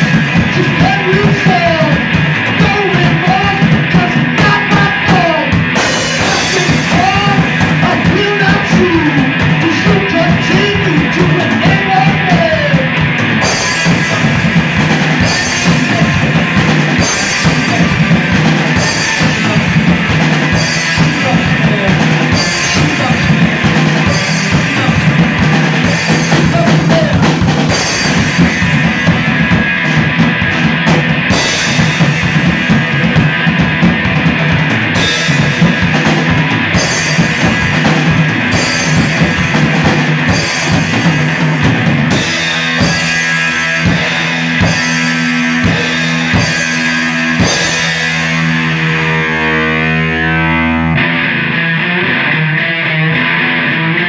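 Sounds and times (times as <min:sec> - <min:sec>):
drum kit pounding: 0:00.0 - 0:53.8
distorted electric guitar: 0:00.0 - 0:54.0.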